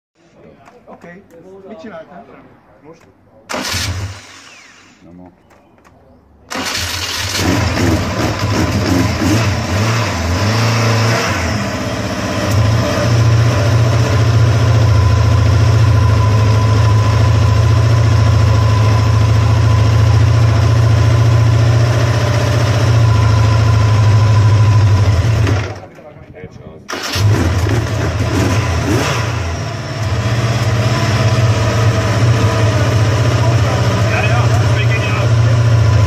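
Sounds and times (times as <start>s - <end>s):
motorcycle engine starting and idling: 3.5s - 10.4s, 11.3s - 26.2s, 26.8s - 36.0s.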